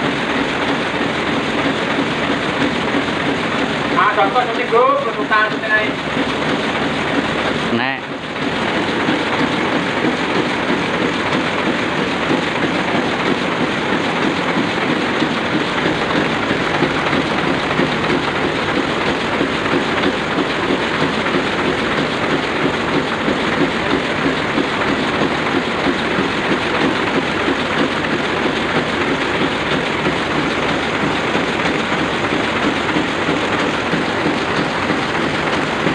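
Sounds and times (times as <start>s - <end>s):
printing press running: 0.0s - 35.9s.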